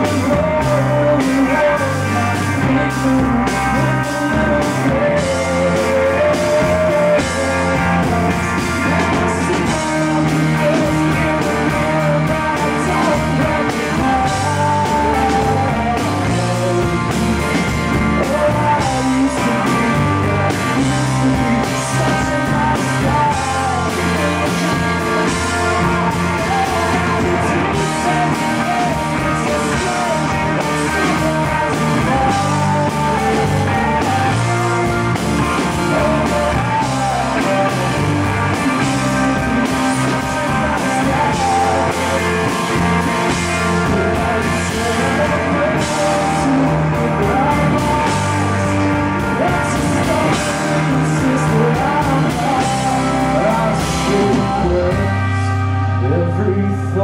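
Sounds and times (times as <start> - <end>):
drums: 0.0 - 57.0
electric guitar: 0.0 - 57.0
man singing: 0.0 - 57.0.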